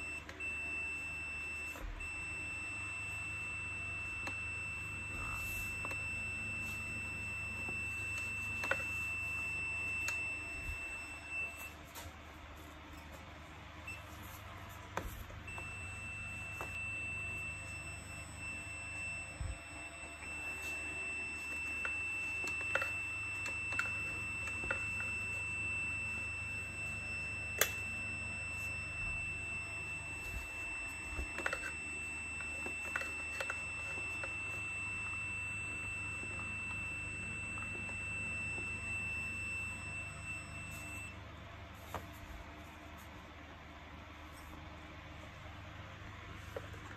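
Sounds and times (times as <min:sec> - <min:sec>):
multimeter continuity beep: 0:00.0 - 0:12.1, 0:13.8 - 0:42.2.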